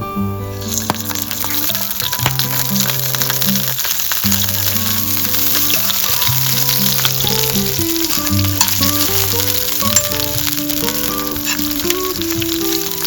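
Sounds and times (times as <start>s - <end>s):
background music of held notes: 0.0s - 13.0s
food sizzling in a pan: 0.5s - 13.0s.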